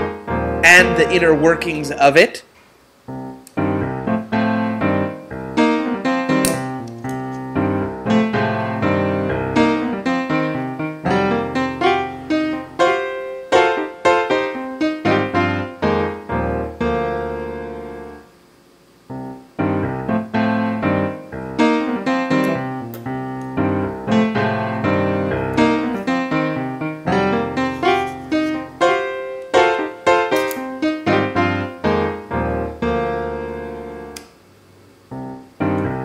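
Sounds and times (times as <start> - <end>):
piano music: 0.0 - 2.4, 3.1 - 18.3, 19.1 - 34.2, 35.1 - 36.0.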